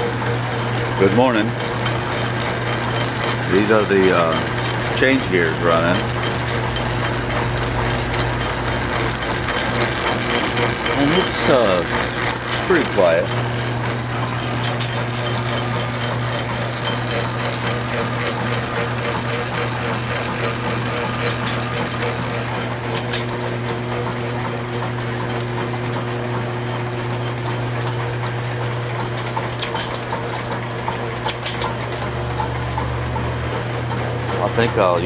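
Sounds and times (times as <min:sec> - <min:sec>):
lathe gears humming: 0:00.0 - 0:35.0.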